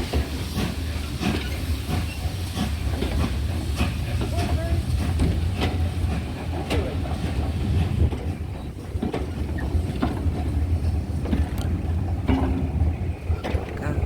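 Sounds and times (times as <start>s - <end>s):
steam locomotive rumbling: 0.0s - 14.0s
wind buffeting microphone: 0.4s - 14.0s.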